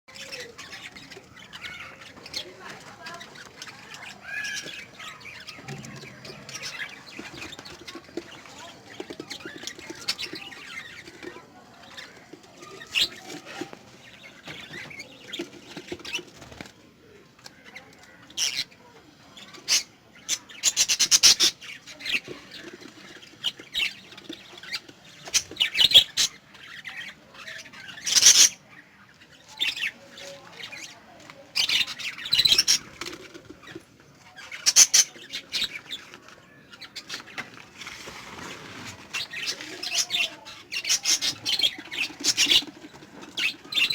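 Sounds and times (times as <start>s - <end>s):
lovebirds chirping and squawking: 0.1s - 43.9s.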